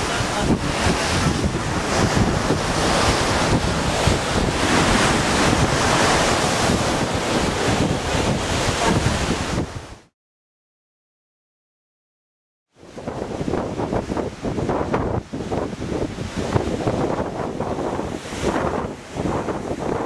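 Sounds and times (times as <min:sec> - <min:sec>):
sea water rushing along hull: 0:00.0 - 0:10.1, 0:12.7 - 0:20.0
wind buffeting microphone: 0:00.0 - 0:10.1, 0:12.8 - 0:20.0.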